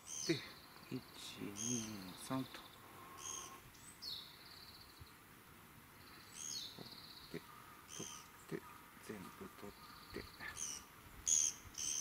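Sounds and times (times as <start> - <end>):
songbird calling with falling trill: 0.0 - 5.2, 6.0 - 12.0.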